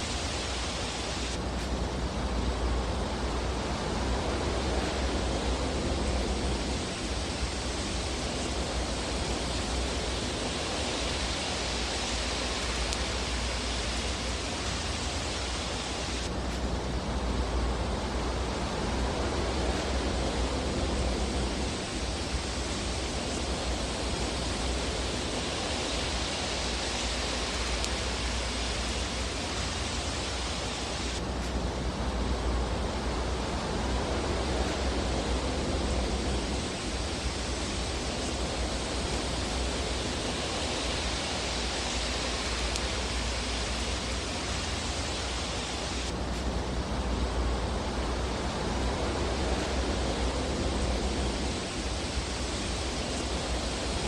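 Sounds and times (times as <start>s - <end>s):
fireplace fire hissing: 0.0s - 54.0s.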